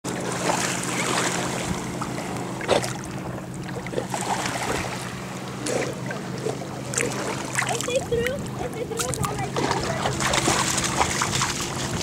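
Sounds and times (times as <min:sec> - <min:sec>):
small waves lapping: 0:00.1 - 0:12.0
steady low hum: 0:00.1 - 0:12.0.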